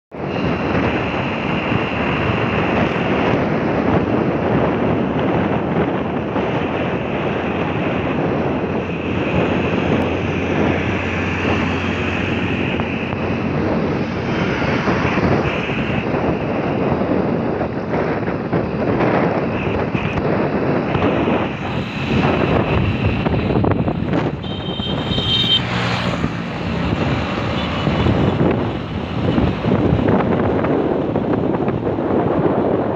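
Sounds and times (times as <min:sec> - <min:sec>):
engine noise: 0:00.1 - 0:32.9
road noise: 0:00.1 - 0:32.9
wind buffeting microphone: 0:00.1 - 0:32.9.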